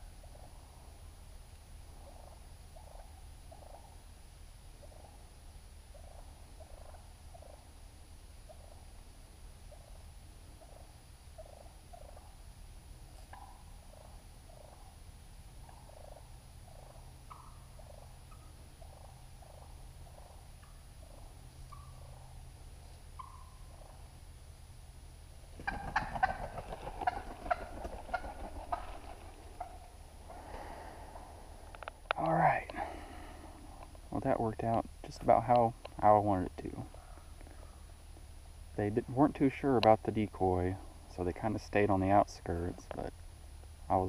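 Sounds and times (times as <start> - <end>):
turkeys yelping and clucking: 0.0 - 42.2.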